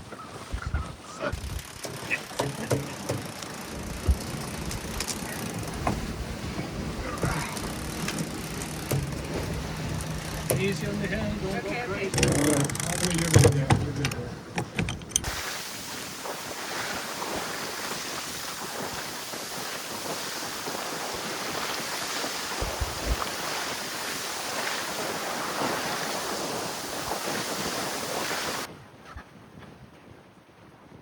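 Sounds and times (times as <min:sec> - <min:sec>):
water rushing along hull: 0:00.0 - 0:28.8
wind buffeting microphone: 0:00.4 - 0:01.7, 0:02.7 - 0:31.0.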